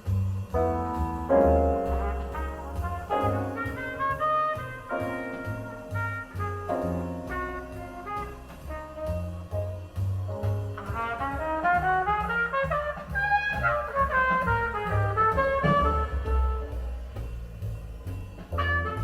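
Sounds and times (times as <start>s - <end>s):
jazz with horns and bass: 0.0s - 19.0s.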